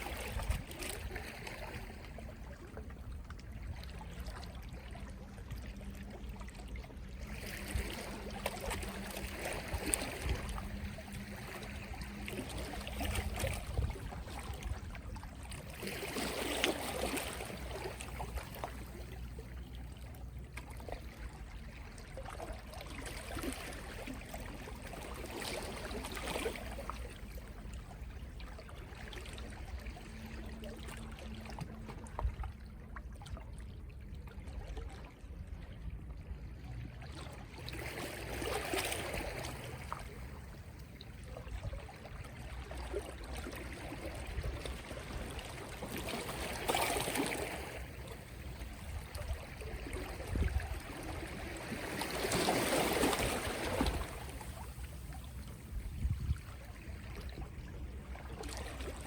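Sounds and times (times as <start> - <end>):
soft waves washing ashore: 0.0 - 59.0.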